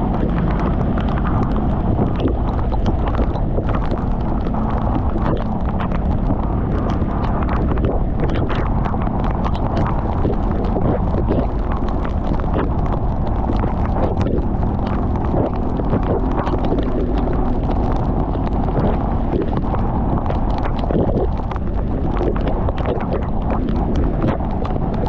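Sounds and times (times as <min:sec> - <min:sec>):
motorcycle engine rumble: 0:00.0 - 0:25.0
rain ticking on microphone: 0:00.0 - 0:25.0
wind on microphone: 0:00.0 - 0:25.0.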